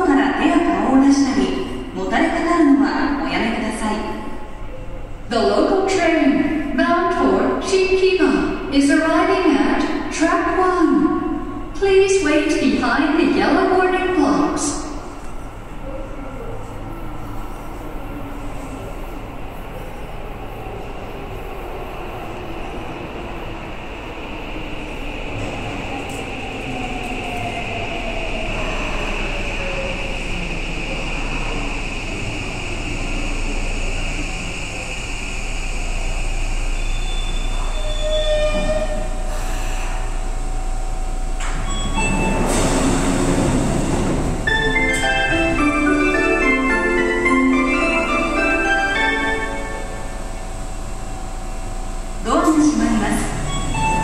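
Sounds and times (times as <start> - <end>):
train rumbling through tunnel: 0.0 - 54.0.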